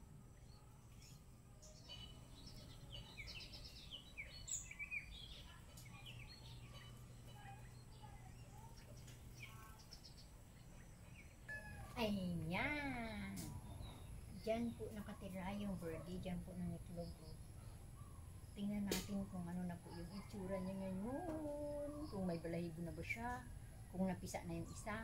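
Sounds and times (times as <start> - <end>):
low steady background hum: 0.0 - 25.0
small bird chirping: 0.1 - 25.0.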